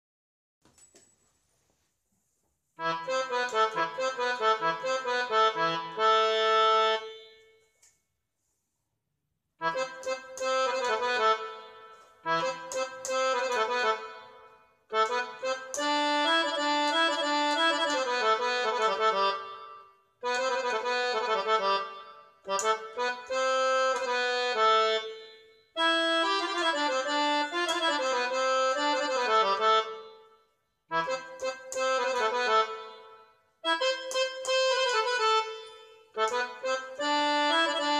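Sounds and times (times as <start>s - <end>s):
keyboard playing accordion notes: 2.8s - 7.7s, 9.6s - 37.9s.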